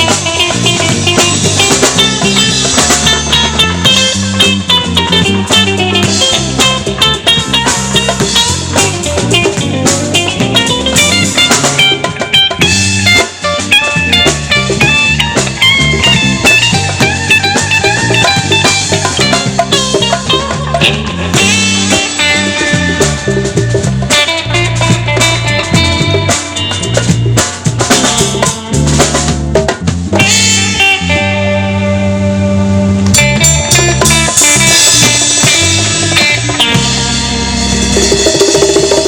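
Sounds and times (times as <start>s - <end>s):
bass guitar: 0.0s - 39.0s
drum kit: 0.0s - 39.0s
electric guitar quick runs: 0.0s - 39.0s.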